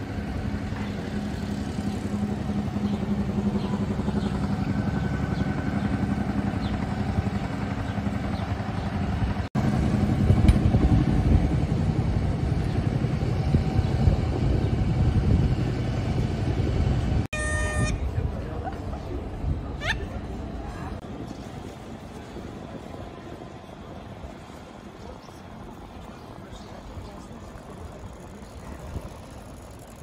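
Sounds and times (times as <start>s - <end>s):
city street rumble: 0.0s - 30.0s.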